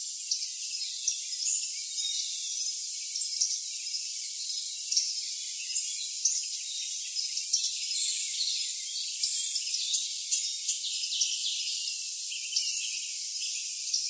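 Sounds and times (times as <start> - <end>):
crickets trilling: 0.0 - 14.0
songbirds chirping: 0.3 - 14.0.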